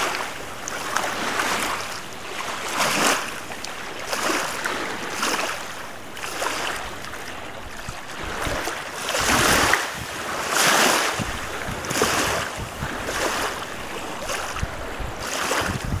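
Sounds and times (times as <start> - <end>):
lake waves splashing: 0.0 - 16.0
wind rumbling on microphone: 0.0 - 16.0.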